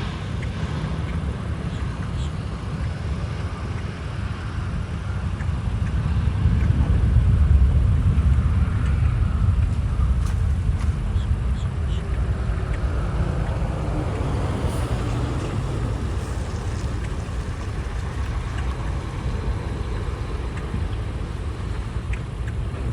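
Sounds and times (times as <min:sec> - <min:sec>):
jet engines rumbling: 0:00.0 - 0:22.9.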